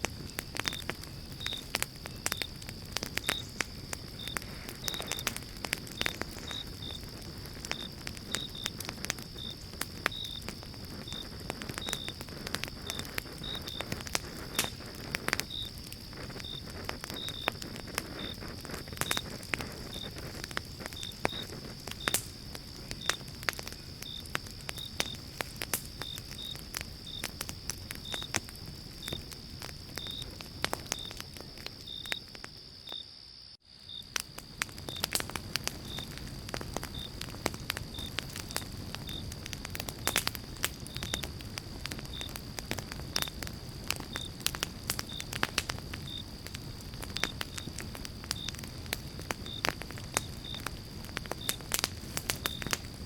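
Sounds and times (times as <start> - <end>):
campfire crackling and popping: 0.0 - 53.0
crickets trilling: 0.0 - 53.0.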